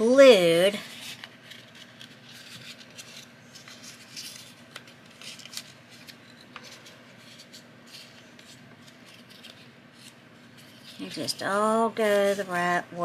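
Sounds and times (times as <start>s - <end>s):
paper rustling and crinkling: 0.7s - 11.4s.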